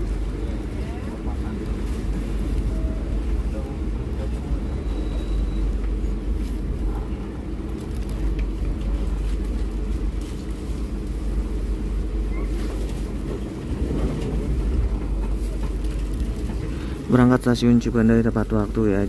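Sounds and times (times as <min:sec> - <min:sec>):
train carriage rumble: 0:00.0 - 0:19.0.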